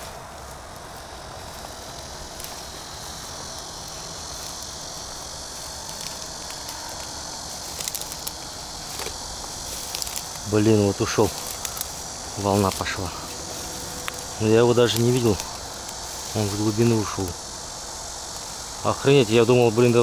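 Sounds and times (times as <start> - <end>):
insects chirring: 0.0 - 20.0
low outdoor rumble: 0.0 - 20.0.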